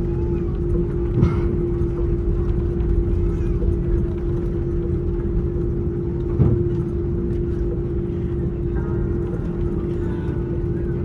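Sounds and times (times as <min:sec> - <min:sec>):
aircraft cabin droning hum: 0:00.0 - 0:11.0.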